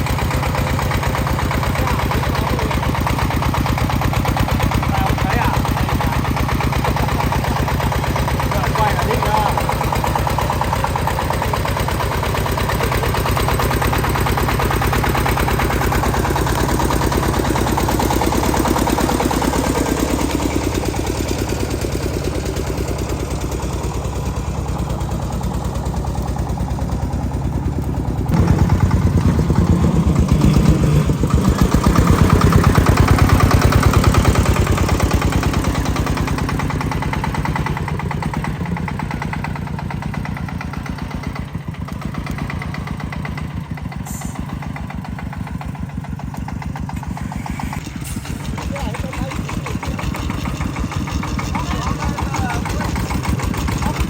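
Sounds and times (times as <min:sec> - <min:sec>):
tractor engine throbbing: 0:00.0 - 0:54.0.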